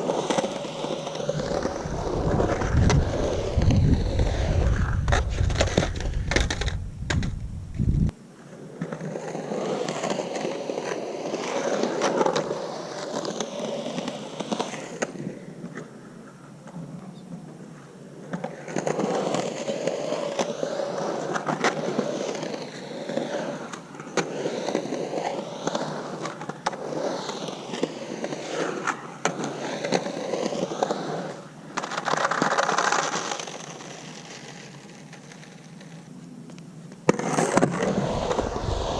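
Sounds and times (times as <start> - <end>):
skateboard wheels rolling on concrete: 0.0 - 38.9.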